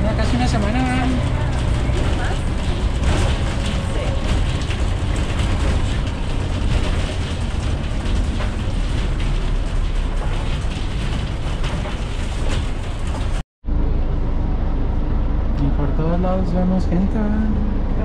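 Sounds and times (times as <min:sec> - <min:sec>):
bus rumbling over road: 0:00.0 - 0:18.0.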